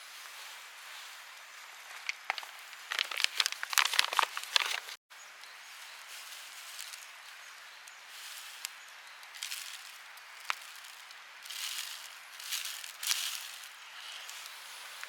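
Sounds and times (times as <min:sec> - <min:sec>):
faint outdoor hiss: 0:00.0 - 0:15.0
crinkling handling noises: 0:01.8 - 0:05.0, 0:05.7 - 0:15.0.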